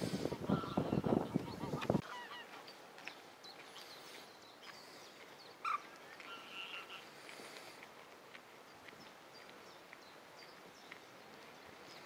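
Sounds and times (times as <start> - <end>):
wild birds chirping: 0.0 - 12.0.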